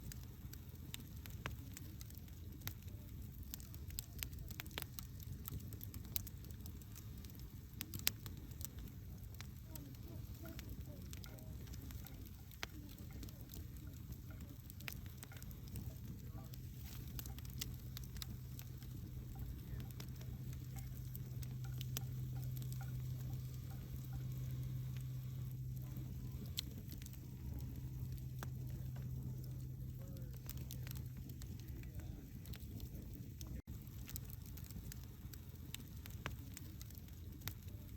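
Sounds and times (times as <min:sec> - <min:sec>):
low hum: 0:00.0 - 0:36.1
campfire crackling: 0:00.0 - 0:37.9.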